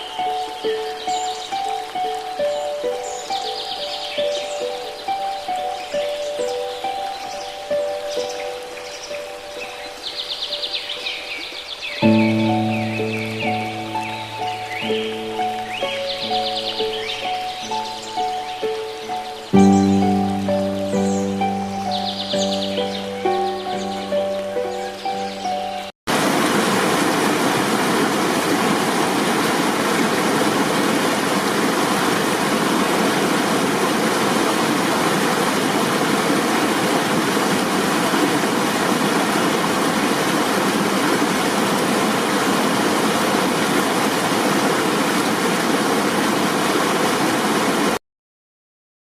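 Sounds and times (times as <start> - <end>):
flowing water rushing: 0.0 - 48.0.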